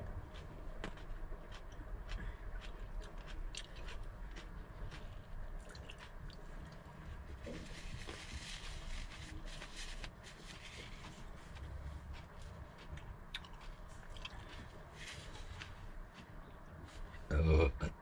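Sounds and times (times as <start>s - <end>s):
person chewing and biting food: 0.1s - 8.4s, 9.0s - 17.2s.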